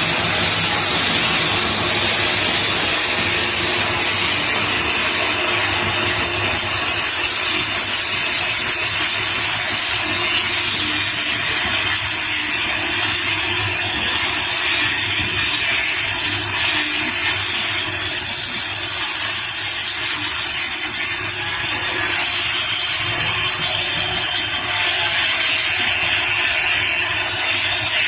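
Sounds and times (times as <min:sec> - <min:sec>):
woodworking power tool running: 0:00.0 - 0:28.0.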